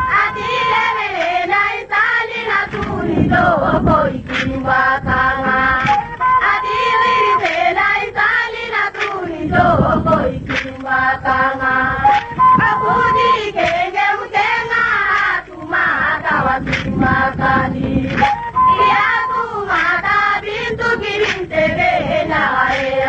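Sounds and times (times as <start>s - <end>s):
voices chanting and singing: 0.0s - 23.0s.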